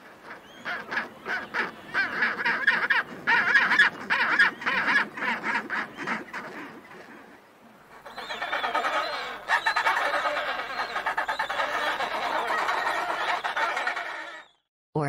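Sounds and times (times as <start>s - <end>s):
penguins calling: 0.1s - 6.8s, 7.9s - 14.5s.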